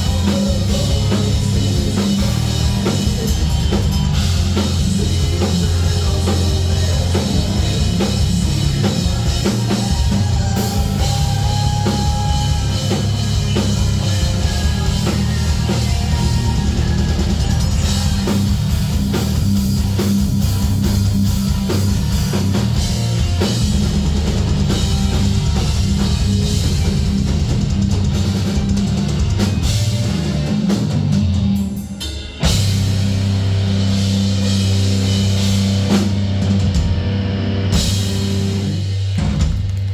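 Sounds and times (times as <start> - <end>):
heavy metal band playing live: 0.0 - 39.9
pounding drum kit: 0.0 - 39.9.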